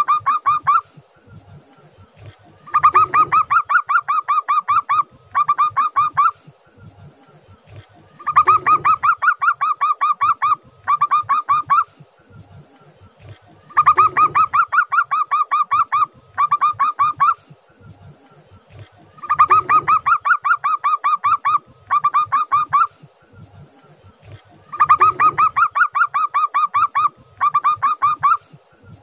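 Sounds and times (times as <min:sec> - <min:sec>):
dove cooing: 0:00.0 - 0:28.7.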